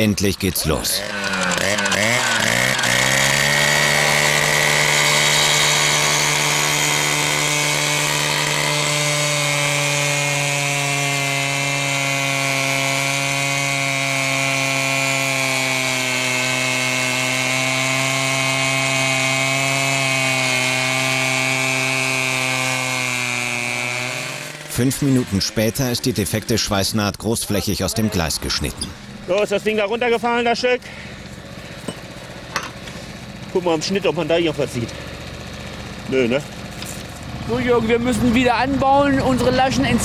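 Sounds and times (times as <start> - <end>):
cut-off saw grinding steel: 0.0 - 40.0.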